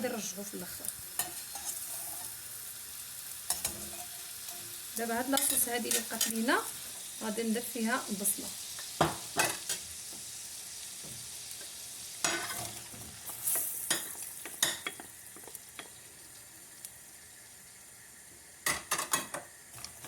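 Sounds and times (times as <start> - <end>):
onion sizzling in frying pan: 0.0 - 20.0.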